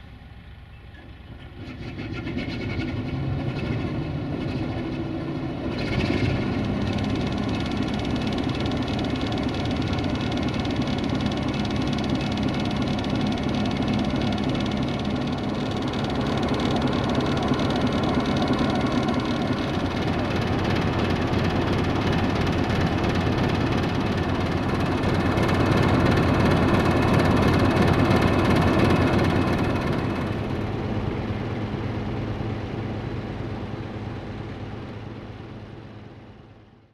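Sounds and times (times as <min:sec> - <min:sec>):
locomotive diesel engine running: 0:00.0 - 0:36.9.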